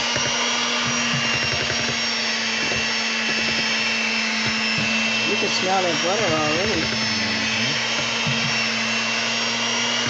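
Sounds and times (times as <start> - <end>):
electric hand mixer whining: 0.0 - 10.0.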